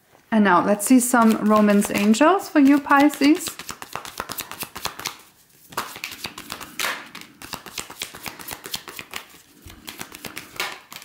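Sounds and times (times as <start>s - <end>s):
cards being shuffled by hand: 1.1s - 11.0s
papery card flicks and slaps: 1.2s - 11.0s.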